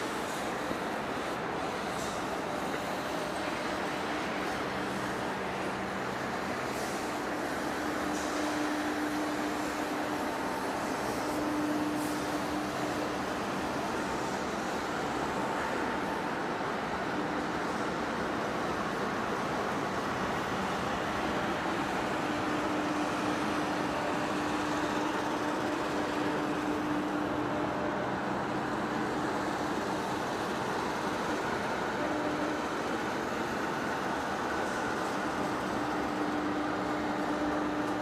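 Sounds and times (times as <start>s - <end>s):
lathe machining metal: 0.0s - 38.0s.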